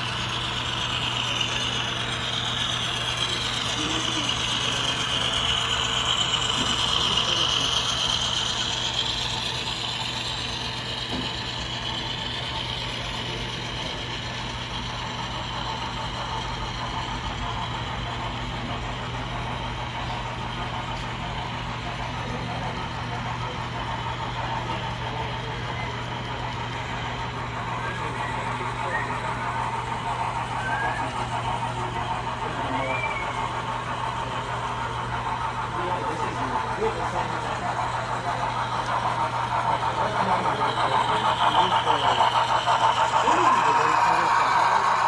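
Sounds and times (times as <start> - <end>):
constant low hum: 0.0 - 45.0
model train whirring and rattling: 0.0 - 45.0.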